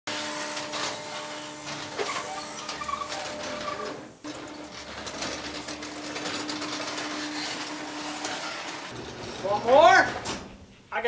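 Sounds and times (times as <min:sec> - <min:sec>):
garage door opener whirring: 0:00.1 - 0:10.7.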